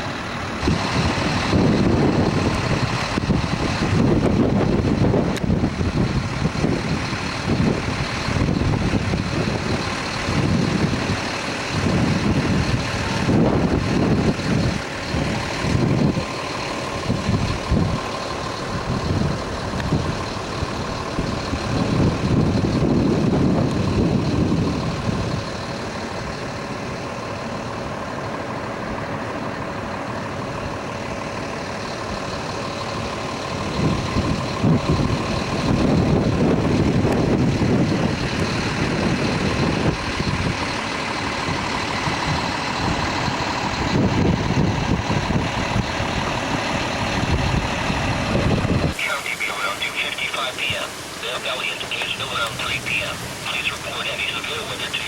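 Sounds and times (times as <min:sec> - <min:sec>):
vehicle rumble: 0:00.0 - 0:55.0.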